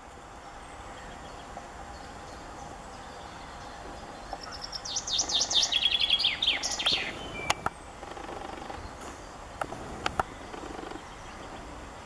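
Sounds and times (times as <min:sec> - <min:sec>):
chaffinch singing: 0:00.4 - 0:12.0.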